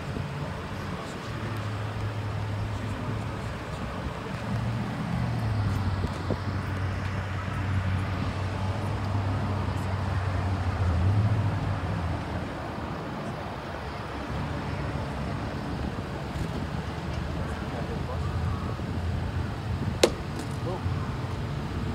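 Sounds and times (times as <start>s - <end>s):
traffic noise: 0.0s - 21.9s.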